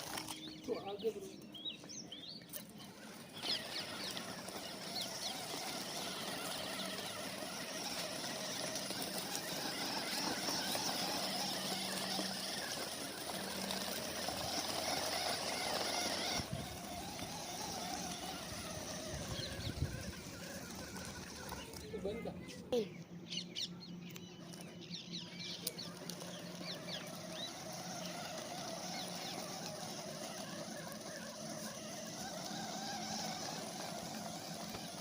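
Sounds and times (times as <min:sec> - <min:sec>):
small electric motor whirring: 0:00.0 - 0:23.2, 0:23.9 - 0:35.0.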